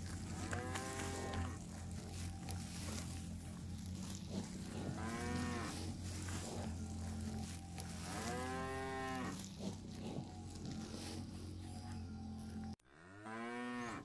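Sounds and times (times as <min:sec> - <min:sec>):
cattle mooing: 0:00.1 - 0:11.2, 0:12.9 - 0:14.0.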